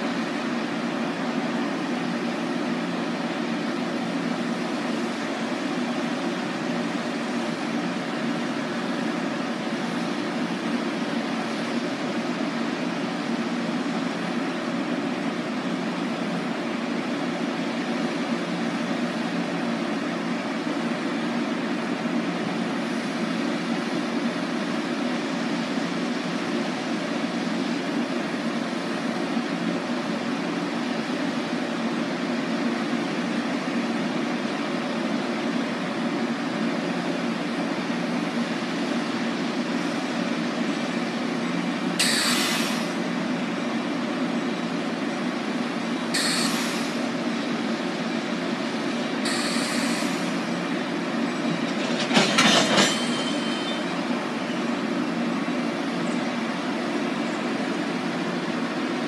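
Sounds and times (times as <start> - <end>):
idling train fan hum and hiss: 0.0 - 59.0.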